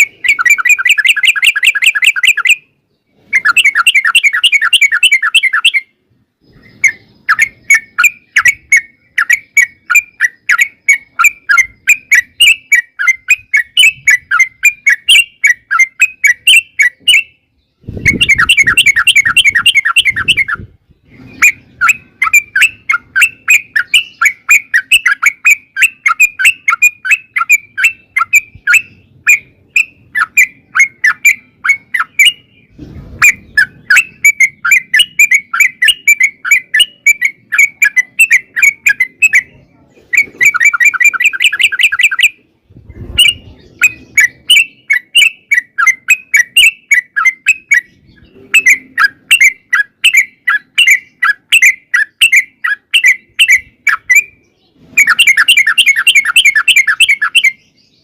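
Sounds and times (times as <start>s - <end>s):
bulbul chattering calls: 0.0s - 58.0s.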